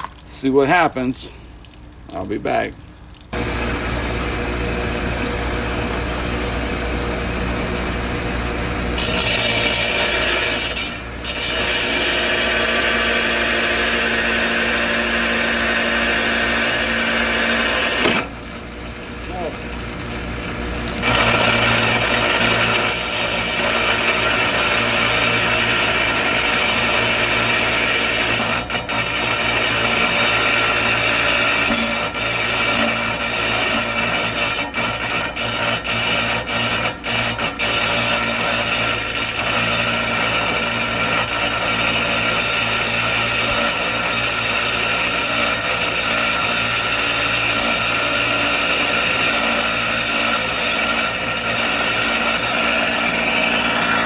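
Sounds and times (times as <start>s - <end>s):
power tool grinding stone: 3.3s - 54.0s.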